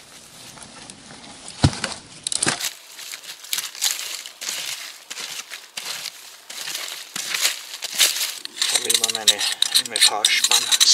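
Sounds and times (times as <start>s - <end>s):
rustling and crinkling: 0.0s - 10.9s.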